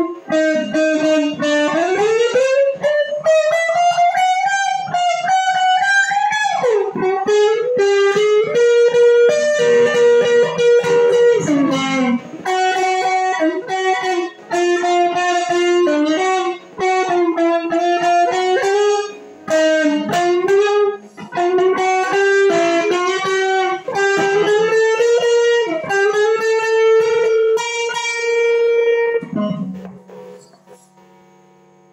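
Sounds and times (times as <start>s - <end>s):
electric guitar lead melody: 0.0s - 31.9s.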